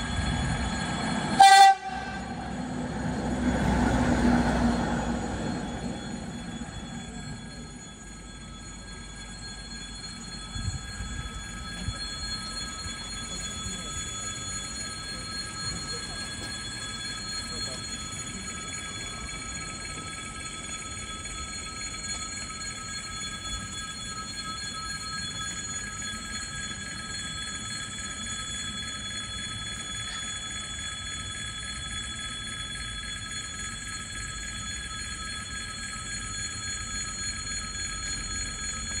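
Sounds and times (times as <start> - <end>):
crossing warning bell ringing: 0.0 - 39.0.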